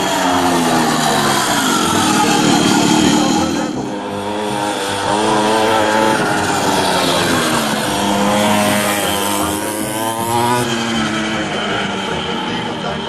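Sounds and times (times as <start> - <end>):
minibike engine revving: 0.0 - 13.0.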